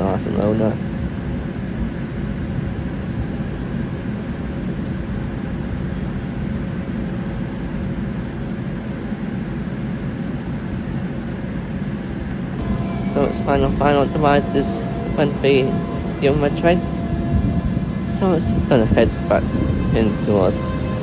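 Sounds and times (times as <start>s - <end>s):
high-speed train rumbling: 0.0s - 21.0s.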